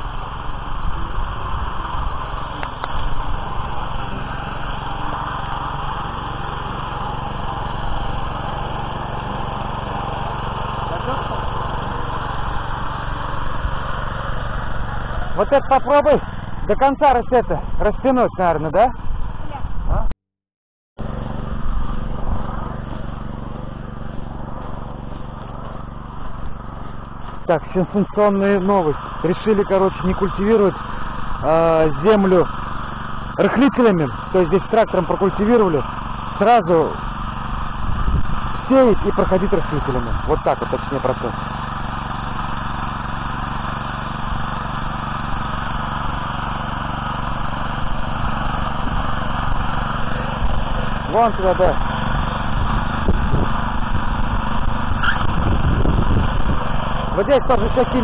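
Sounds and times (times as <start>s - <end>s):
walk-behind tractor engine running: 0.0s - 20.1s, 21.0s - 58.0s.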